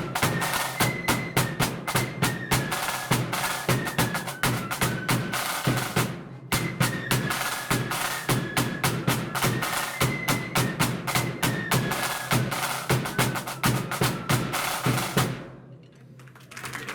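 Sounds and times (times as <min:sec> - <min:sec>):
flutes playing melody: 0:00.0 - 0:15.3
snare drum strokes: 0:00.0 - 0:15.6.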